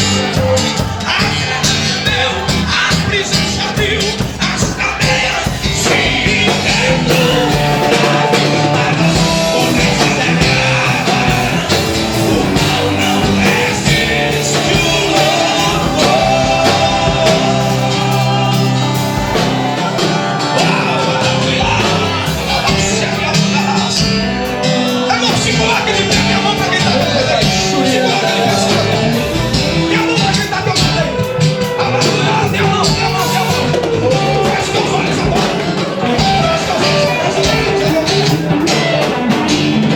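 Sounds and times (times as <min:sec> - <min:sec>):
gospel band with drums: 0:00.0 - 0:39.9
person singing: 0:00.0 - 0:39.9.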